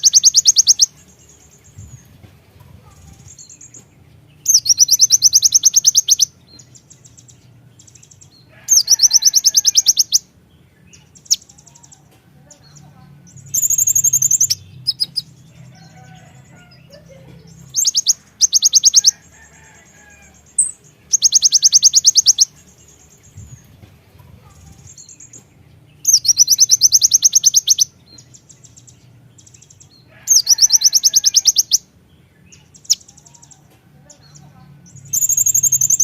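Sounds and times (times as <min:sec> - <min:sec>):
sunbird fast ticking trills: 0:00.0 - 0:12.1, 0:12.7 - 0:33.7, 0:34.9 - 0:36.0.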